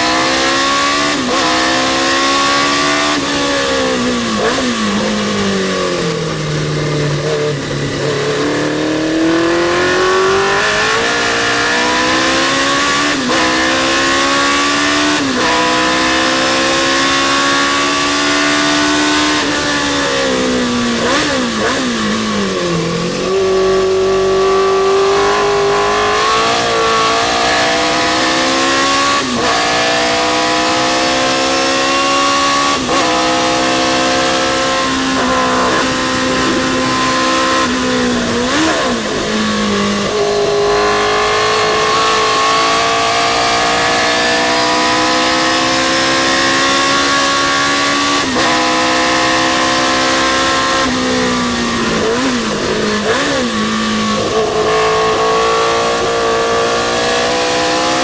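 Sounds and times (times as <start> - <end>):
racing car engine accelerating: 0.0 - 58.0.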